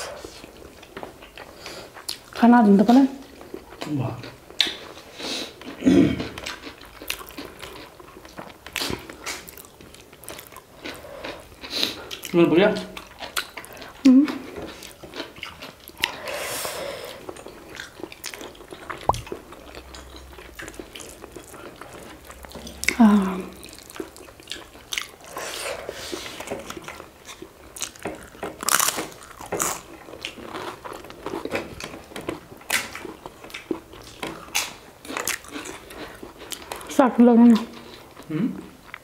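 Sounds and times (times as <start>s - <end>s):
chewing and biting food: 0.2s - 2.4s, 3.2s - 16.4s, 17.1s - 39.0s.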